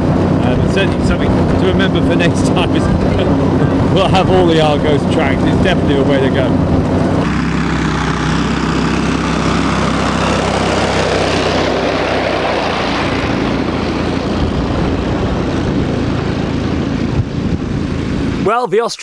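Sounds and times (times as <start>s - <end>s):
rushing noise of vehicle movement: 0.0s - 18.5s
vehicle engine running: 0.0s - 18.5s.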